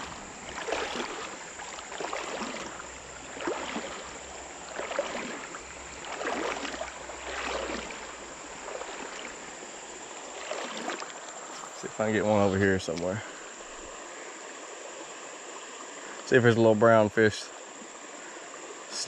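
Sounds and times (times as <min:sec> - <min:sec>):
wading through water: 0:00.0 - 0:16.3.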